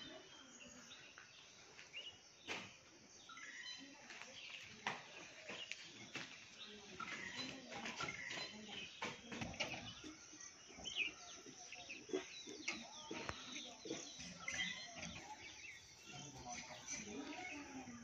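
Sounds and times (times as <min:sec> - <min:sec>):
birds chirping: 0:00.0 - 0:18.0
faint outdoor background noise: 0:00.0 - 0:18.0.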